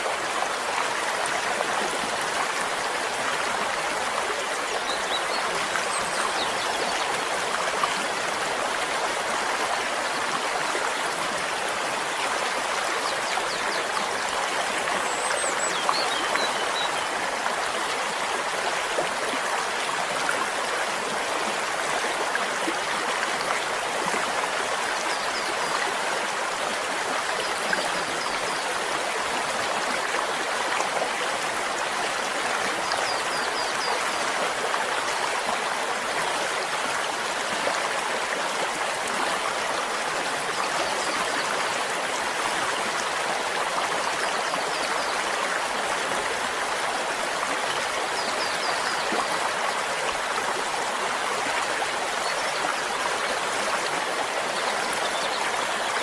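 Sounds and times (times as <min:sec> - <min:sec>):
stream water babbling: 0:00.0 - 0:56.0.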